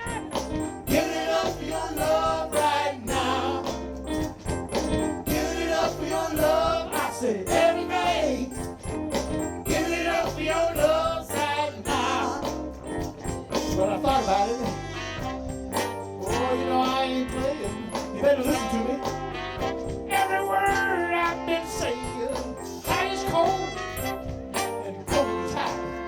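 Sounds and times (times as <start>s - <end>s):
bass line: 0.0s - 26.0s
drums beat: 0.0s - 26.0s
soul band playing live: 0.0s - 26.0s.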